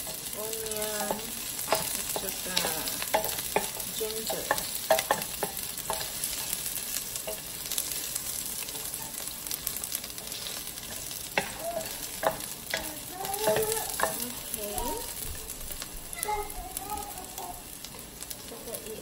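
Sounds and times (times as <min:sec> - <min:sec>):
wooden spoon scraping a pot: 0:00.0 - 0:16.6
onion sizzling in oil: 0:00.0 - 0:19.0.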